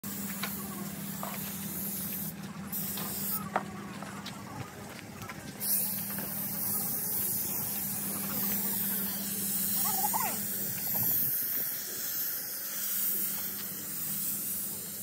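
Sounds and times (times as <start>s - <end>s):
paint spray gun hissing: 0.0s - 3.7s, 5.6s - 15.0s.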